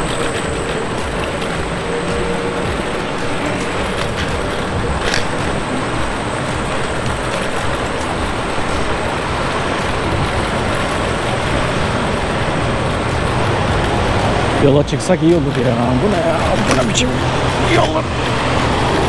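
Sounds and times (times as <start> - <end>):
bicycle rolling noise: 0.0 - 19.0
heavy road traffic: 0.0 - 19.0.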